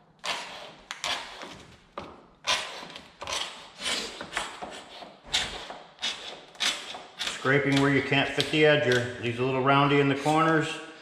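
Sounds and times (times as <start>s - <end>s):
hand scraper rasping wood: 0.2s - 1.7s, 2.4s - 9.1s, 10.0s - 10.7s.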